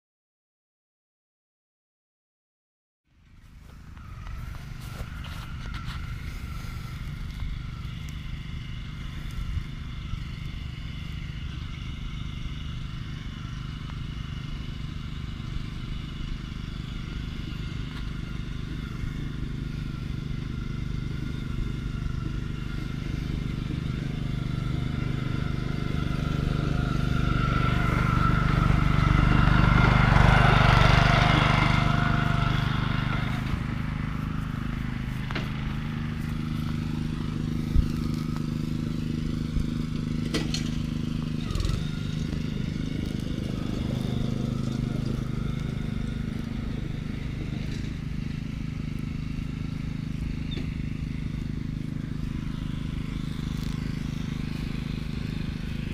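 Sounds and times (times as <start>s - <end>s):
engine humming: 3.1s - 55.9s
vehicle passing: 3.3s - 55.9s.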